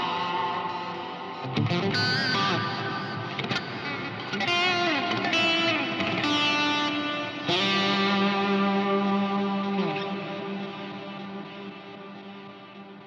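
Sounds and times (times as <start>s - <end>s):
electric guitar with delay and reverb: 0.0s - 13.0s.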